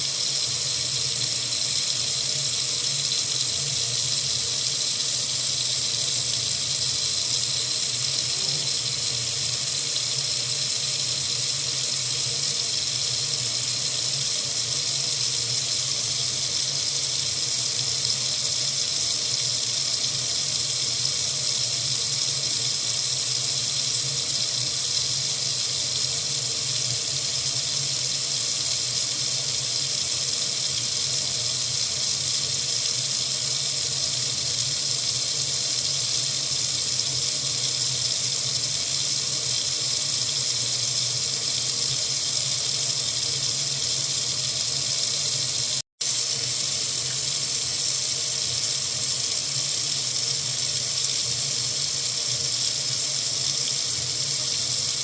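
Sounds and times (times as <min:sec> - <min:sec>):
water running into a sink: 0:00.0 - 0:55.0.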